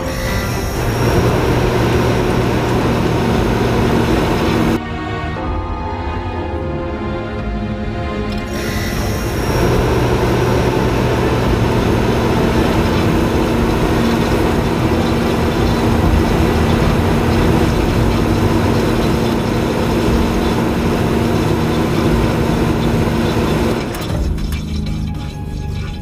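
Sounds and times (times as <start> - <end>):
heavy vehicle engine rumble: 0.0 - 4.8, 8.3 - 26.0.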